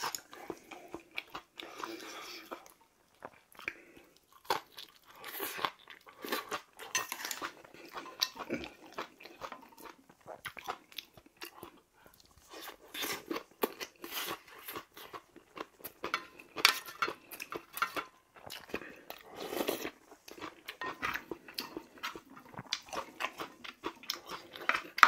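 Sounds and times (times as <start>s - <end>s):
man chewing and crunching food: 0.0s - 25.0s.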